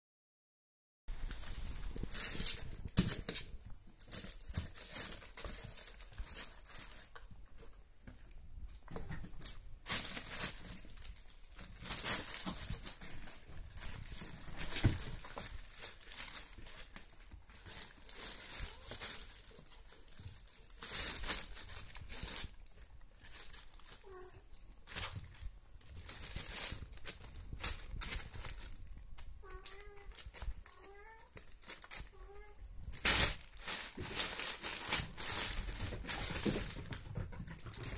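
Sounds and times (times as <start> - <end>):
plastic and cardboard rustling: 1.1 - 37.9.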